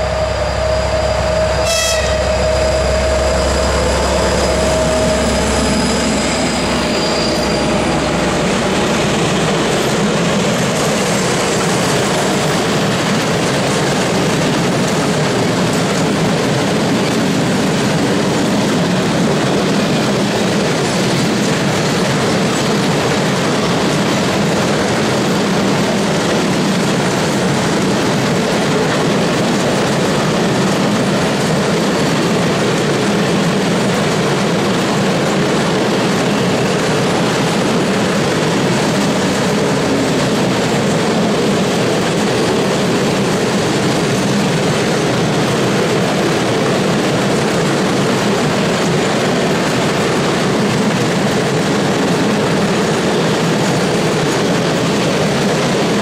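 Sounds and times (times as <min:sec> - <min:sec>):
train wheels on track: 0:00.0 - 0:56.0.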